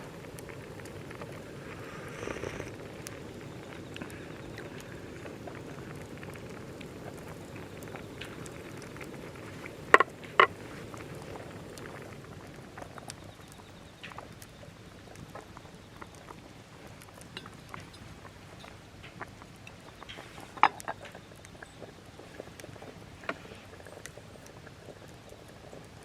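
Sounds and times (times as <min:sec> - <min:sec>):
campfire crackling: 0:00.0 - 0:26.0
wood snapping in fire: 0:02.7 - 0:24.8.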